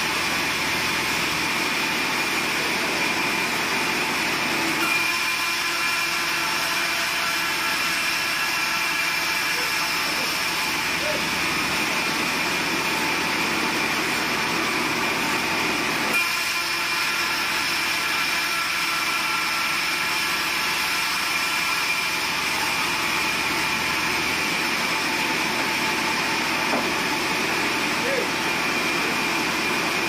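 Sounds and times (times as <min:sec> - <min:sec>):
band saw cutting a board: 0:00.0 - 0:30.0.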